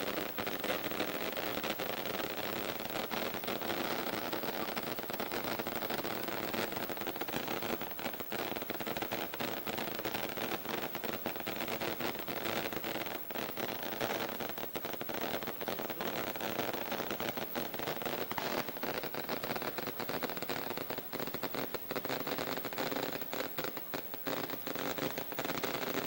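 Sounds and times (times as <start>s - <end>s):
firecrackers popping: 0.0s - 26.0s.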